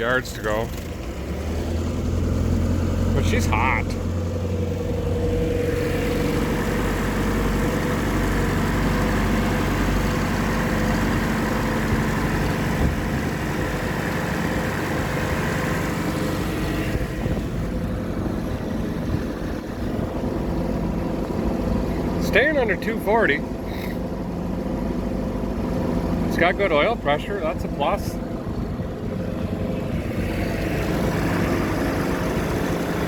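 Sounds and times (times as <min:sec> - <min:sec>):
boat engine running: 0:00.0 - 0:33.0.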